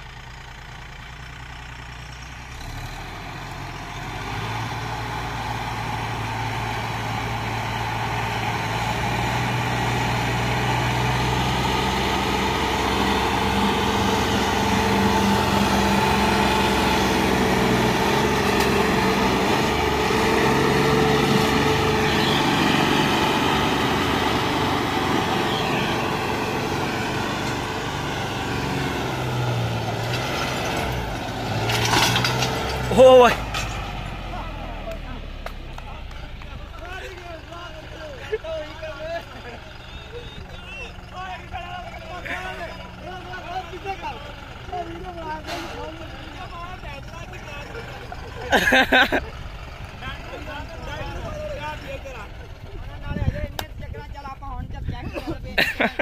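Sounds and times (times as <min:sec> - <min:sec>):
tractor diesel engine running hard: 0:00.0 - 0:56.0.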